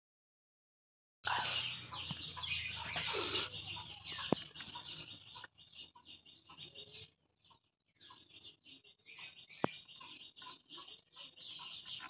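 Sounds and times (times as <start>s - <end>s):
birds chirping: 1.2s - 12.0s
chickens clucking: 1.3s - 12.0s.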